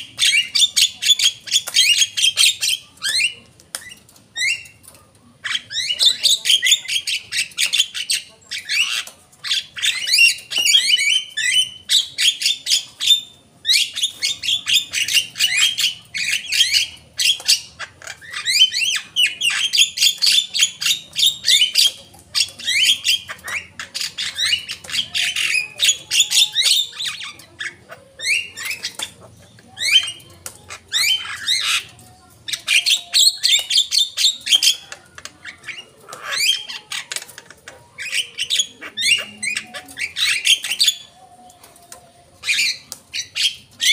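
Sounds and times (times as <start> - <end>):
bird chattering song: 0.0 - 41.6, 42.4 - 43.9.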